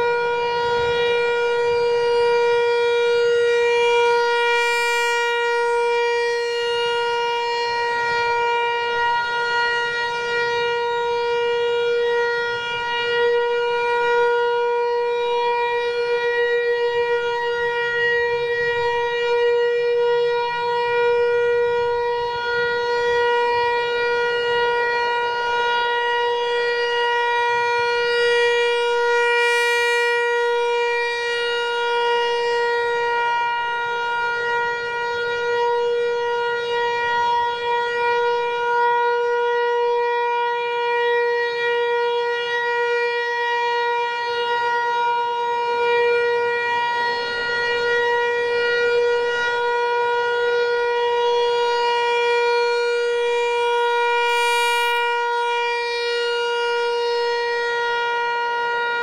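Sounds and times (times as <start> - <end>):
electronic siren steady tone: 0.0 - 59.0.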